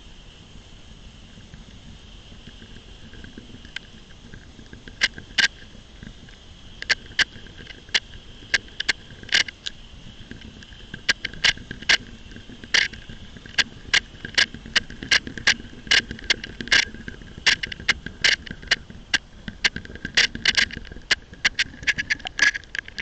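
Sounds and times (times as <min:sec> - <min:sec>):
faint high whine: 0:00.0 - 0:23.0
sharp clicks and ticks: 0:02.3 - 0:23.0.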